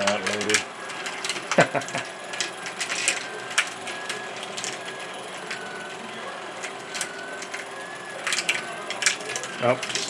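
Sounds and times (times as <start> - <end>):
marble run mechanical clatter: 0.0 - 10.0.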